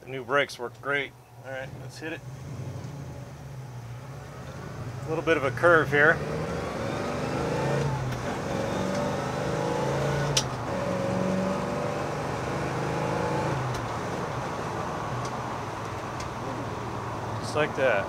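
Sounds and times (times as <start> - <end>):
car engine accelerating: 1.5 - 18.0.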